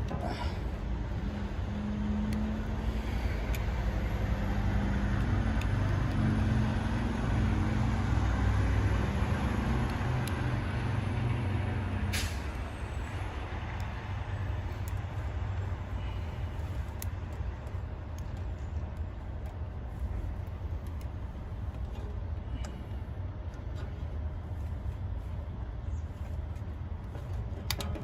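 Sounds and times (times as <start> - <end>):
low mechanical humming rumble: 0.0 - 28.0.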